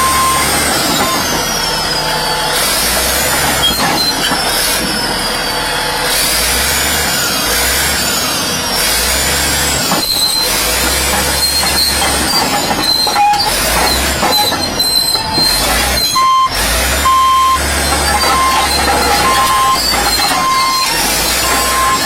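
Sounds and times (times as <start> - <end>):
bulldozer engine running: 0.0 - 22.0
steel tracks grinding and squealing: 0.0 - 22.0.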